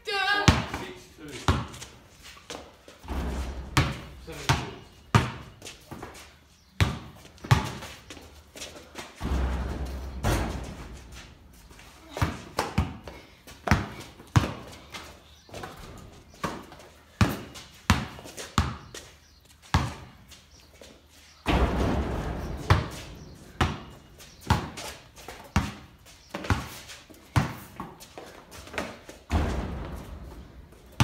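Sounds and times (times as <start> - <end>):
basketball bouncing in shed: 0.4 - 20.3, 21.4 - 31.0.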